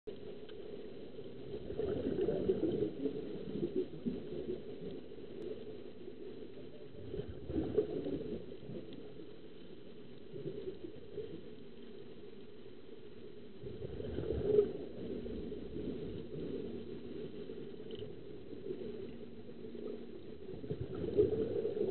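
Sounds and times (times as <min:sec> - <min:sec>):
muffled underwater bubbling: 0:00.1 - 0:21.9.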